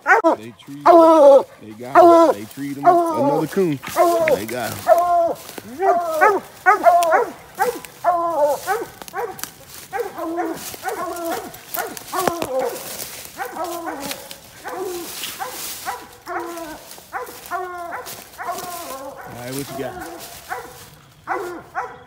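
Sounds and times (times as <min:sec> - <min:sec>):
hounds bawling barks: 0:00.0 - 0:22.0.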